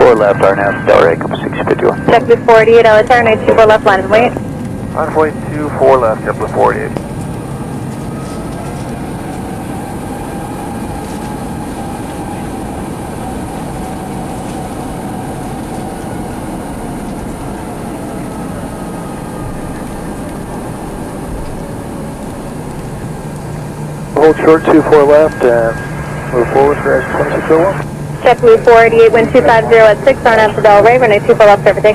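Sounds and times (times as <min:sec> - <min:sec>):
faint steady whine: 0:00.0 - 0:31.9
jet engines rumbling: 0:00.0 - 0:31.9.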